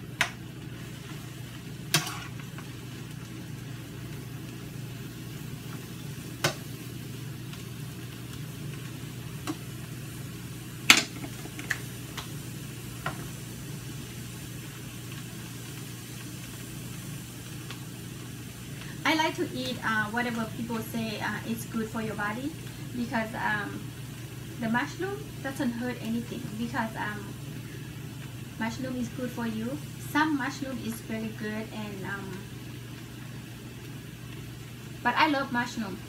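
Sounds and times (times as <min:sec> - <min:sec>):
mushroom sizzling in a skillet: 0:00.0 - 0:36.0.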